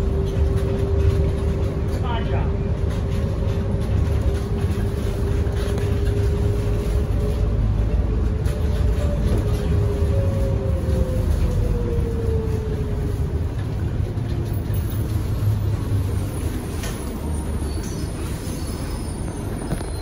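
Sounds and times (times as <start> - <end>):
train interior rumble: 0.0 - 20.0.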